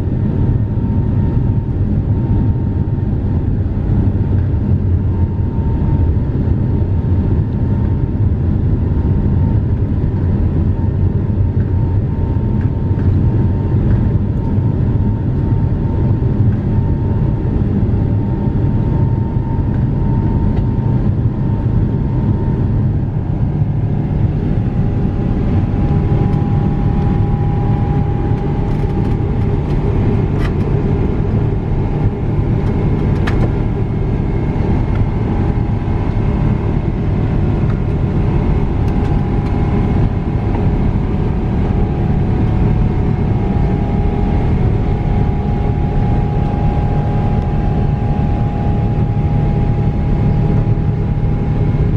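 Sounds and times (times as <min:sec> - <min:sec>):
airplane cabin engine rumble: 0:00.0 - 0:51.9
faint whine: 0:00.0 - 0:51.9.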